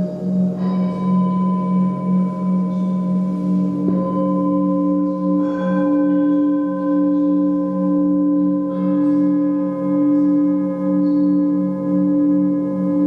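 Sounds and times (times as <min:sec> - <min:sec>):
singing bowls ringing: 0:00.0 - 0:13.0.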